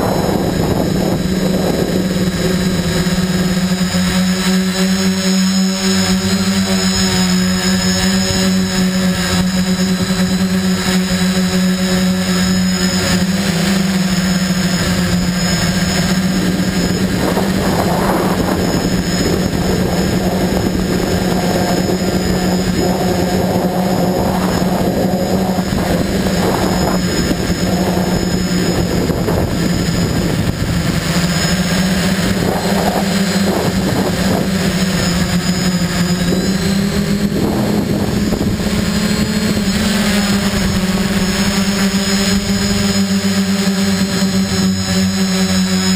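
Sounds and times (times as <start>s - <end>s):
wind gusts over microphone: 0.0s - 45.8s
drone motors buzzing: 0.0s - 45.9s.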